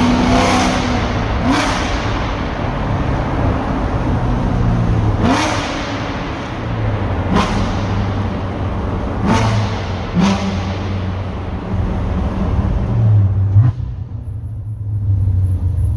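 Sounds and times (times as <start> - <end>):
exhaust cracks: 0.0 - 14.6
car engine droning in tunnel: 0.0 - 15.9.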